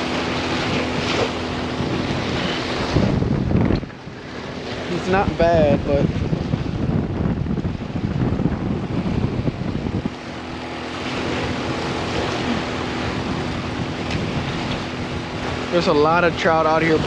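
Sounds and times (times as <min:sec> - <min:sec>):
faint motor hum: 0:00.0 - 0:17.0
water and waves: 0:00.0 - 0:17.0
wind buffeting microphone: 0:00.0 - 0:17.0.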